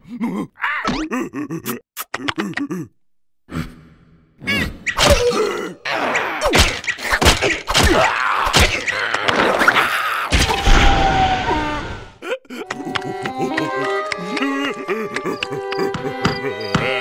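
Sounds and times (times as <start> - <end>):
cartoon characters groaning and crying: 0.0 - 17.0.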